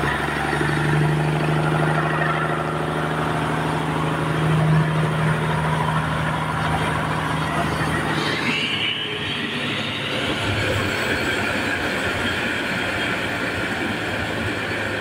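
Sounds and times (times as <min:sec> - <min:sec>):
sawmill engine humming: 0:00.0 - 0:15.0.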